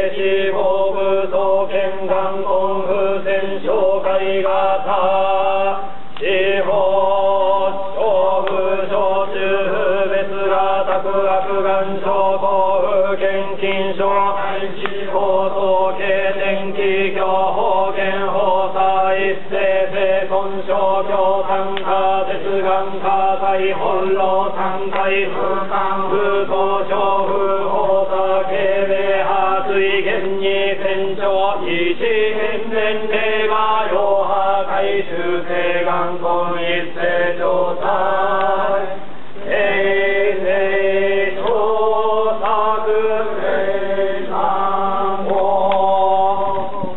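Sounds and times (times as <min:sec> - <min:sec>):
voices chanting in unison: 0:00.0 - 0:46.9.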